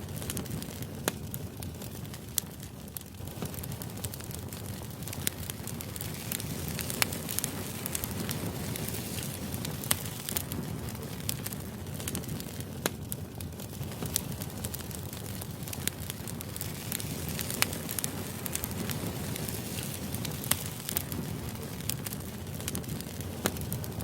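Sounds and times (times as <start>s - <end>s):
sharp crackles and clicks: 0.0s - 24.0s.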